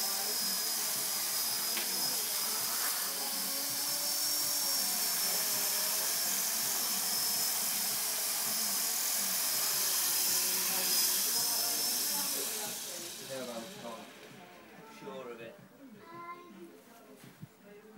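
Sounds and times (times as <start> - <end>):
model helicopter motor whine: 0.0 - 15.2.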